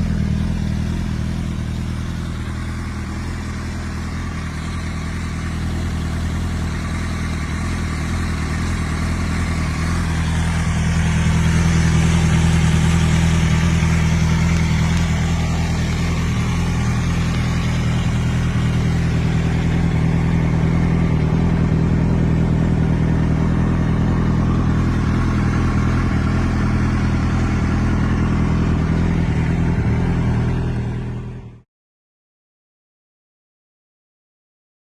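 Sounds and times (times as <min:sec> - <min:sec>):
motorcycle engine idling: 0:00.0 - 0:31.6.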